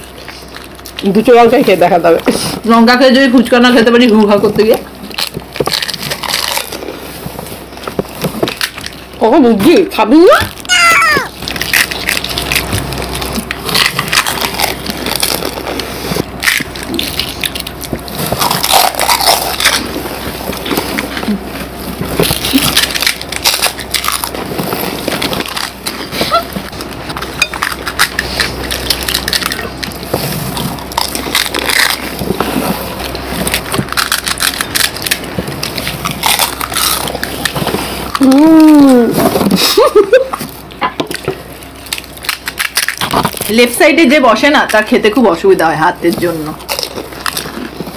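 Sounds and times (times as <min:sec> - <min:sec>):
crunchy chewing: 0:00.0 - 0:01.6, 0:03.8 - 0:09.2, 0:10.5 - 0:43.8, 0:46.3 - 0:47.9.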